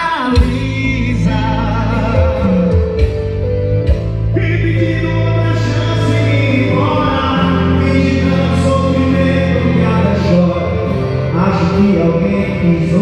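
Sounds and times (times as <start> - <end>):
heavy bass: 0.0 - 13.0
song with sung vocals: 0.0 - 13.0.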